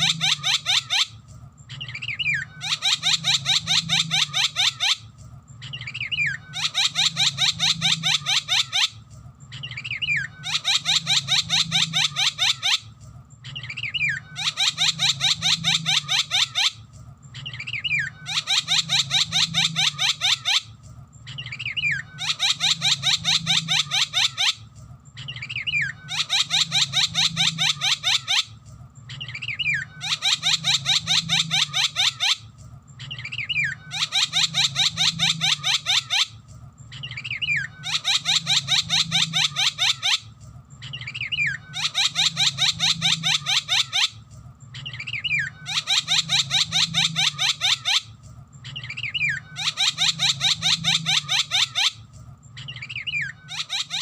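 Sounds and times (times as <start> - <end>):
bird whistling and rattling call: 0.0 - 54.0
low hum: 0.0 - 54.0.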